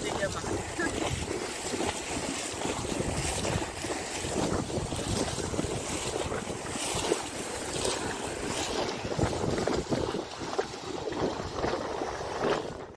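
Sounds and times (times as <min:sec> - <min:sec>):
hooves splashing in water: 0:00.0 - 0:12.9.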